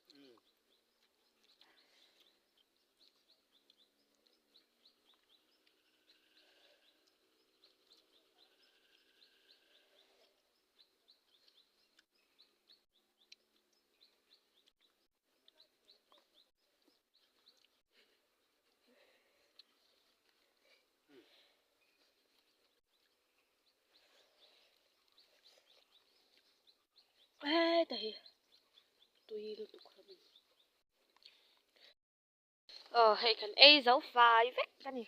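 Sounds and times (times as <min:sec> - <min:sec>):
birds chirping: 0:00.0 - 0:18.7, 0:19.5 - 0:31.9.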